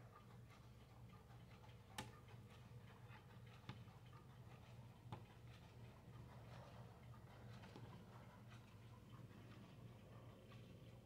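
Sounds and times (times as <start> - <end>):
wall clock ticking: 0.0 - 11.0.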